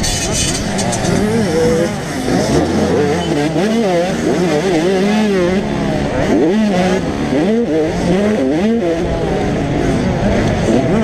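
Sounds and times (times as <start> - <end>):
two-stroke motocross engines revving: 0.0 - 11.0.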